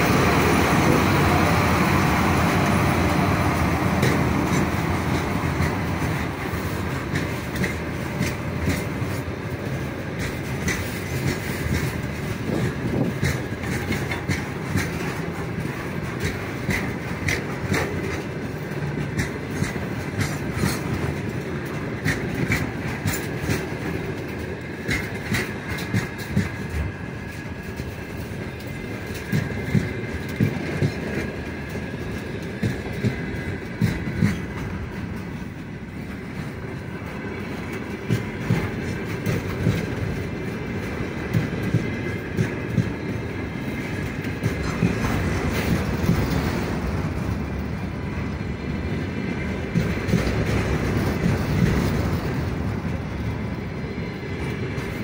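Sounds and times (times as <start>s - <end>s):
freight train rolling rumble: 0.0s - 55.0s
train wheels clacking over rail joints: 0.0s - 55.0s.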